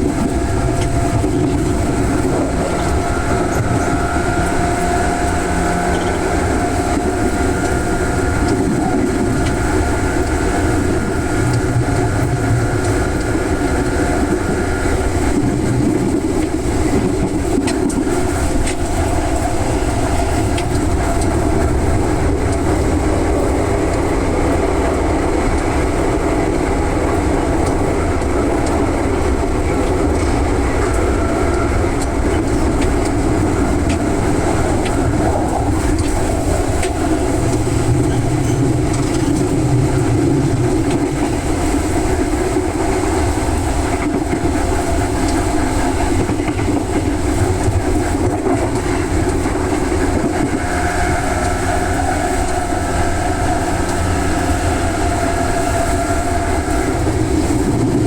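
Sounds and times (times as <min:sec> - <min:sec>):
electric train running: 0:00.0 - 0:58.0
wheels clicking over rail joints: 0:00.0 - 0:58.0.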